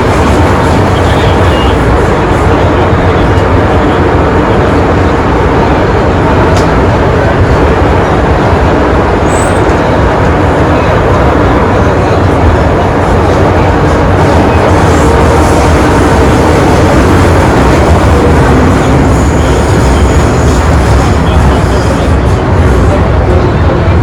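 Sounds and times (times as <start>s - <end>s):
train rumbling in tunnel: 0.0s - 24.0s.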